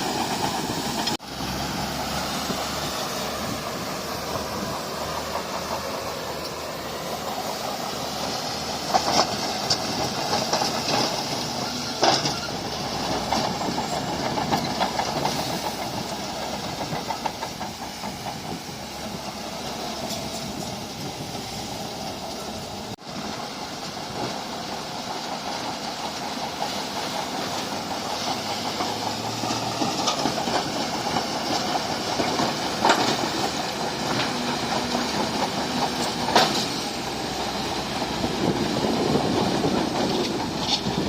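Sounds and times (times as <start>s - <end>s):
bulldozer running: 0.0s - 41.0s
steel tracks clattering: 0.0s - 41.0s.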